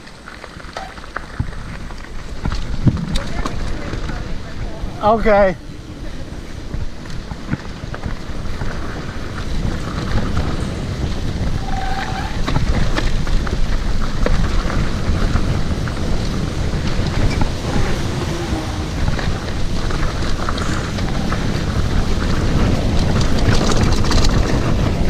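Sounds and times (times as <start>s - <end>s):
bike clattering over rough ground: 0.0s - 5.5s, 6.1s - 25.0s
wind rushing over microphone: 1.3s - 25.0s.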